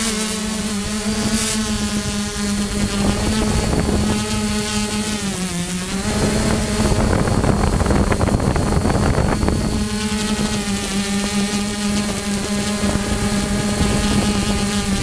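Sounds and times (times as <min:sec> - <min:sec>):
drone propellers buzzing: 0:00.0 - 0:15.0
rushing wind-like noise: 0:00.0 - 0:15.0.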